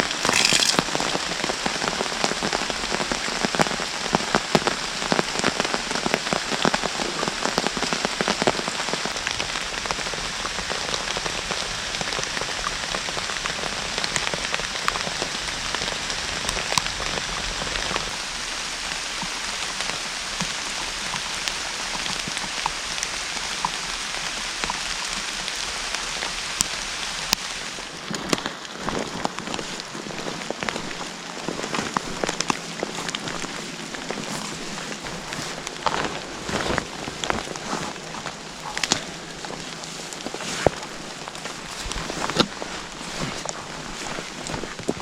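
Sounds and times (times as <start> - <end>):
rain in a forest: 0.0 - 45.0.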